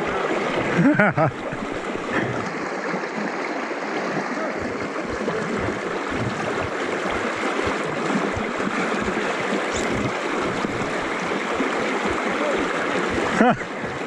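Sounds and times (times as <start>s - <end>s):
fast-flowing river rushing: 0.0s - 14.0s.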